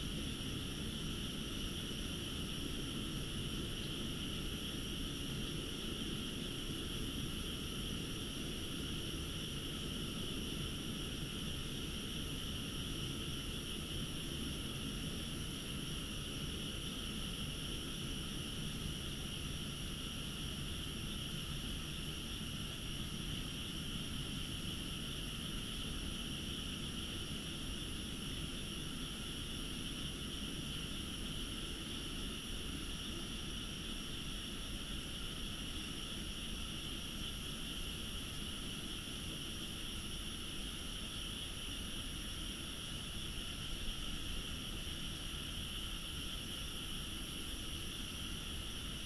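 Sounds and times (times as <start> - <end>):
frogs chorus: 0.0 - 49.0.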